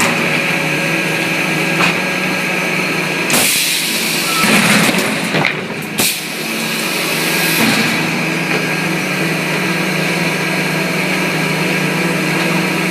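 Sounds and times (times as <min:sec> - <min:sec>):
sawmill machinery running: 0:00.0 - 0:12.9.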